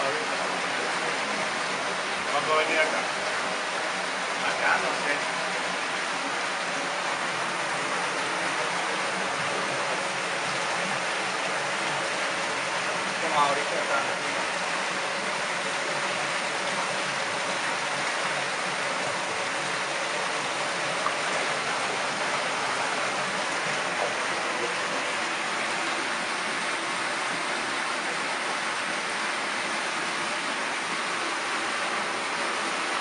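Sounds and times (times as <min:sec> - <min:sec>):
flowing and falling water: 0:00.0 - 0:33.0.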